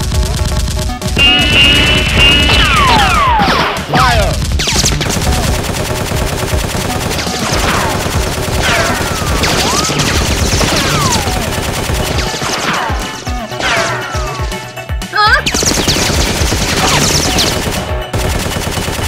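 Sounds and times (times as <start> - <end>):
machine-gun automatic fire: 0.0 - 13.1, 15.4 - 19.0.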